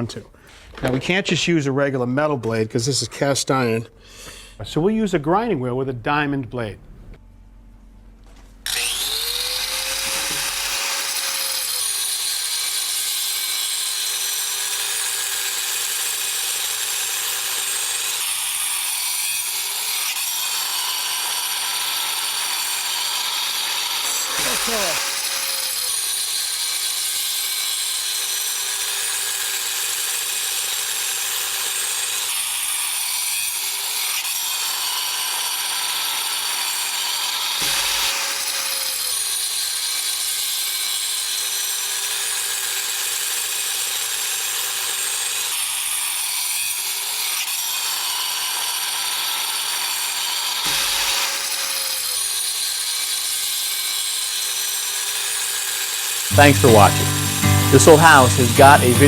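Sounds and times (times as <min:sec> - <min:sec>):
angle grinder cutting pipe: 0:08.7 - 0:59.0.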